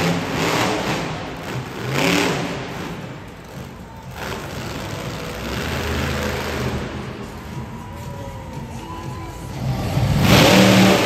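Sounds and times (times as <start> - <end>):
monster truck engine revving: 0.0 - 7.6, 9.4 - 11.0
music playing: 0.0 - 11.0.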